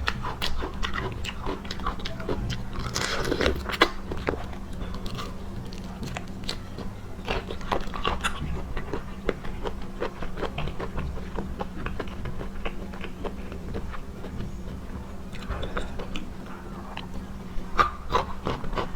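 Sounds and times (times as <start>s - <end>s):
person chewing crunchy seafood: 0.0s - 18.9s.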